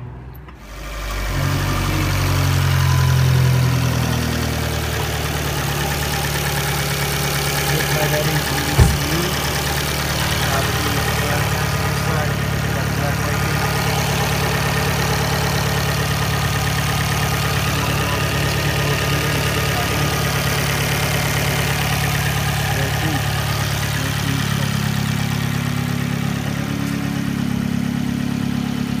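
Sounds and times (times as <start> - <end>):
car engine idling: 0.5 - 29.0.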